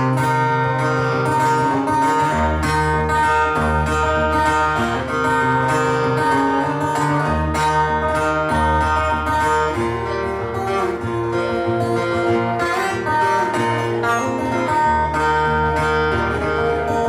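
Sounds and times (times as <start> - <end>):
bass line: 0.0 - 17.0
blues guitar: 0.0 - 17.0.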